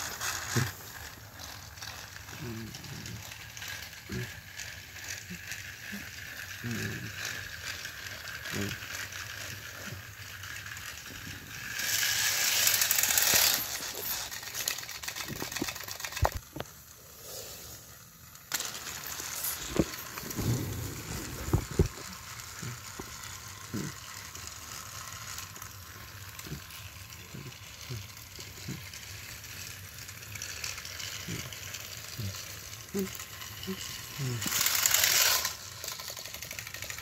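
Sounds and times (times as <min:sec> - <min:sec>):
toy train motor whirring: 0:00.0 - 0:37.0.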